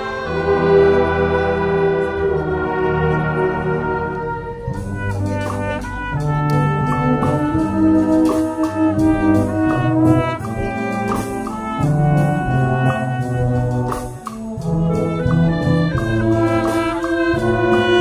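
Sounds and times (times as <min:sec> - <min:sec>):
wind band playing: 0:00.0 - 0:18.0.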